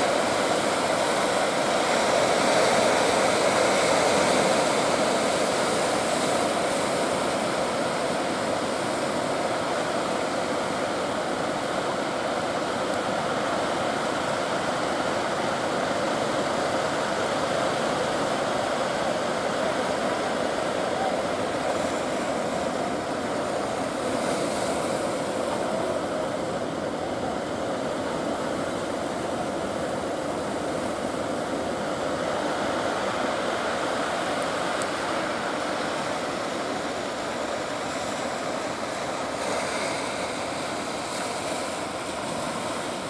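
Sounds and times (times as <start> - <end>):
surf breaking over rocks: 0.0 - 43.0.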